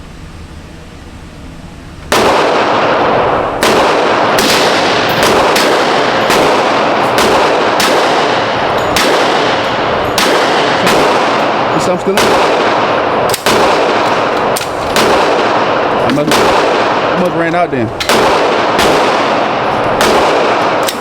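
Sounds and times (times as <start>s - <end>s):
rapid gunshots: 2.1s - 21.0s.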